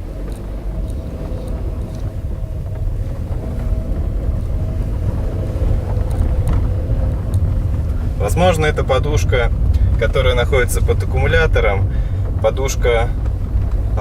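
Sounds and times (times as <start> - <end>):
road and tyre rumble: 0.0 - 14.0
light clicks and rattles: 0.1 - 14.0.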